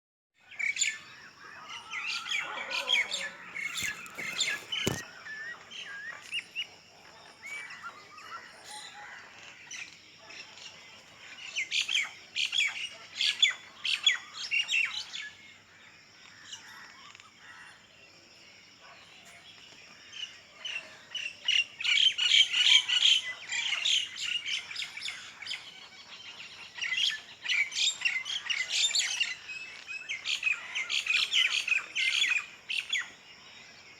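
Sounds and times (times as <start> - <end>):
birds chirping and calling: 0.4 - 15.6, 20.2 - 33.2.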